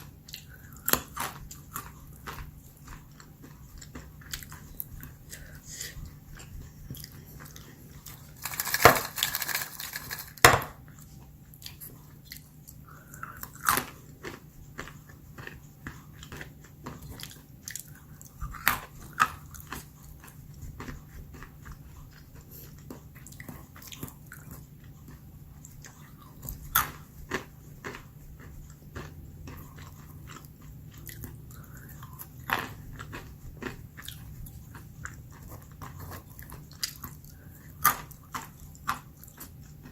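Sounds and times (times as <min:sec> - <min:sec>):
almonds crunching and chewing: 0:00.0 - 0:39.9.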